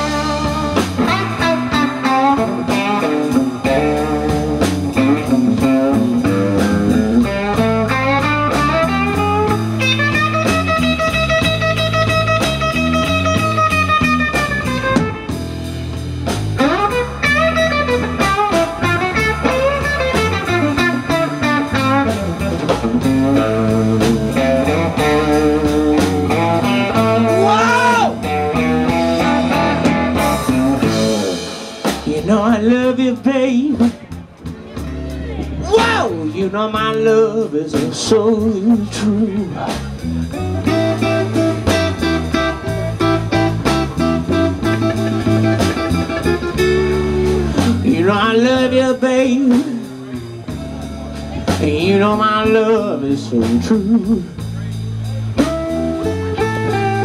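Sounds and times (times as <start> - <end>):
bass line: 0.0 - 57.0
blues guitar lead: 0.0 - 57.0.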